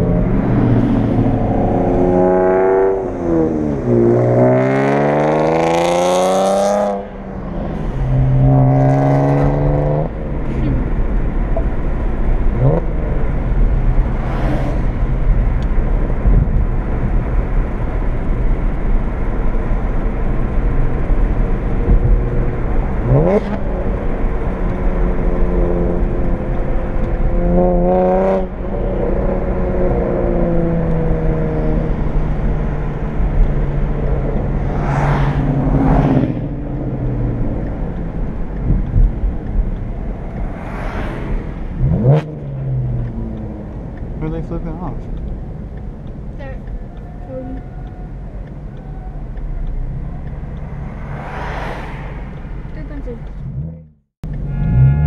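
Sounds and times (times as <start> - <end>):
car engine from inside cabin: 0.0 - 55.0
tyre and road noise: 0.0 - 55.0.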